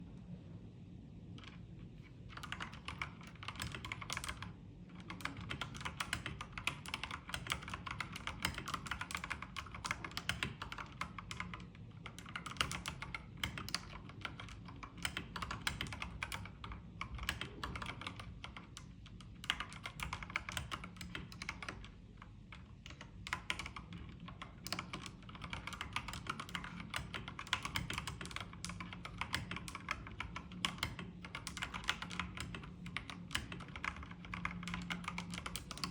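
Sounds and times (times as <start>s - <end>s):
typing on mechanical keyboard: 2.3s - 35.9s.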